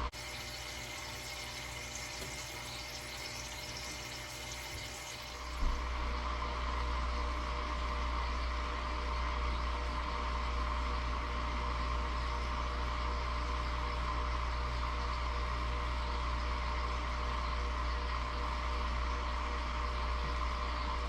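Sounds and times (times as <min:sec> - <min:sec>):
low motor hum with hiss: 0:00.0 - 0:21.0.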